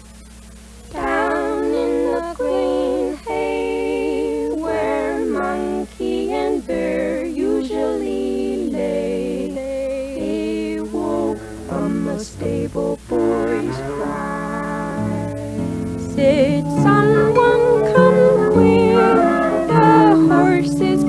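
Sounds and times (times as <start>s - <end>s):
low tape playback hum: 0.0s - 21.0s
woman singing with vibrato: 0.9s - 21.0s.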